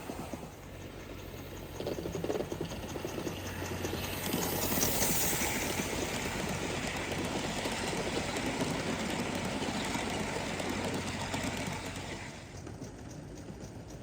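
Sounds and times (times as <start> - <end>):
model steam locomotive running: 0.0 - 14.0.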